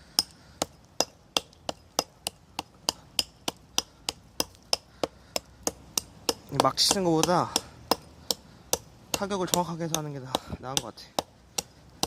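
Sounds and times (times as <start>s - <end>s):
hatchet chopping log: 0.1s - 12.0s.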